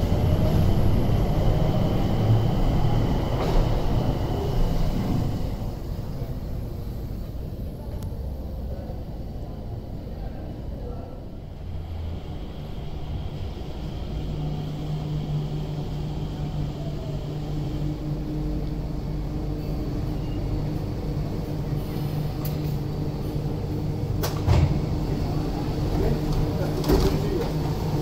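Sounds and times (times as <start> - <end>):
train steady low hum: 0.0 - 28.0.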